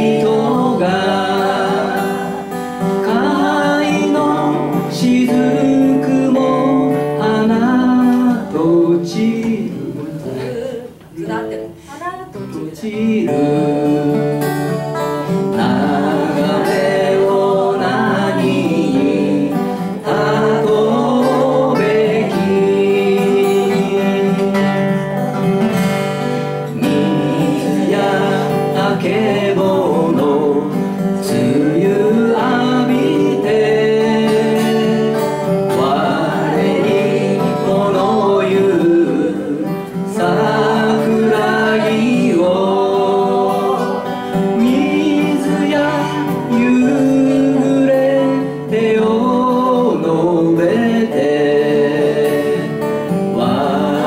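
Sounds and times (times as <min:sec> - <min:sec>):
man singing: 0:00.0 - 0:11.4, 0:12.0 - 0:54.0
acoustic guitar: 0:00.0 - 0:54.0.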